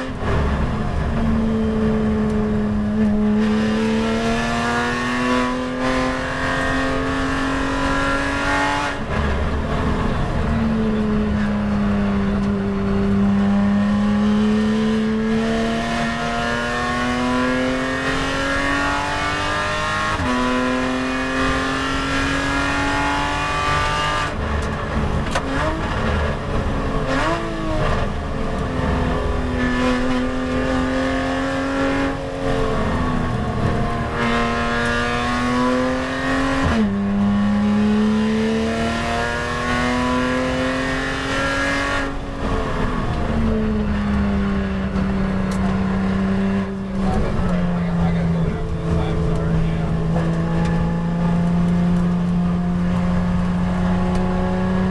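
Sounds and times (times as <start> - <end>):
race car engine at full throttle: 0.0 - 54.9.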